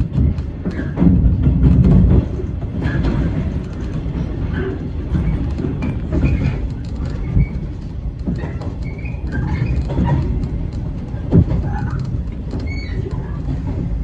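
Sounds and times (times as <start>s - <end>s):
train wheels rumbling on rails: 0.0s - 14.0s
wheels knocking over rail joints: 0.0s - 14.0s.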